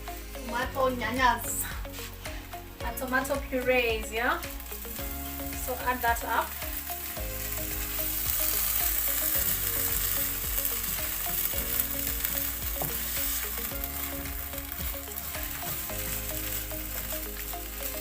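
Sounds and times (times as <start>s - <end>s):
sauce sizzling in a pan: 1.4s - 18.0s.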